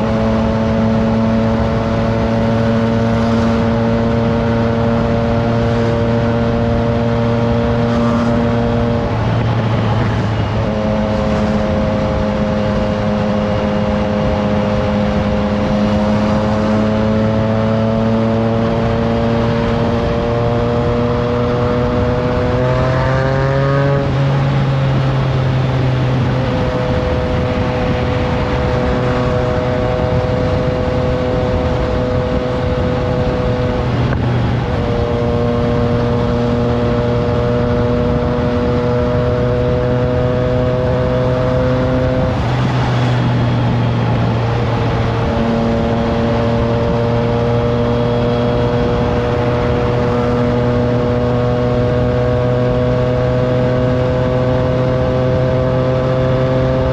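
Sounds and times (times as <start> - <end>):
motorcycle engine running: 0.0 - 56.9
wind rush: 0.0 - 56.9.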